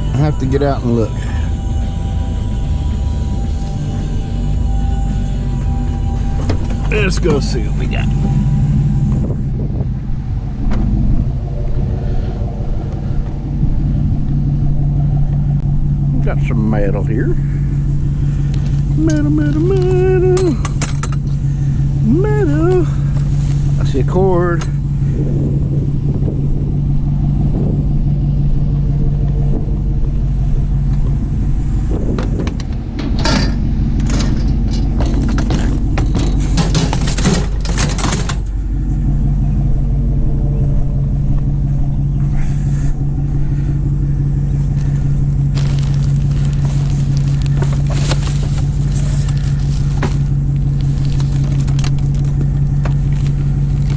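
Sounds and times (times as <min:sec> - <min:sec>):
vehicle engine idling: 0:00.0 - 0:53.9.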